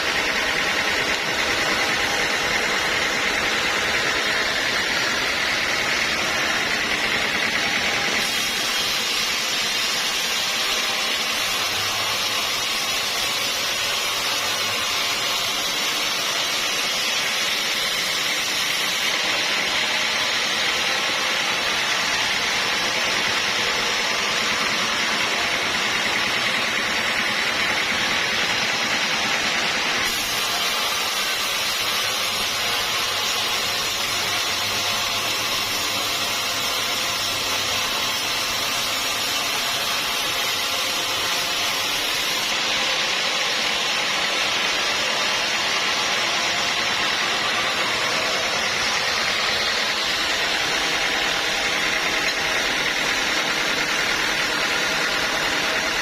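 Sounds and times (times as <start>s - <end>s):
bandsaw mill cutting log: 0.0s - 56.0s.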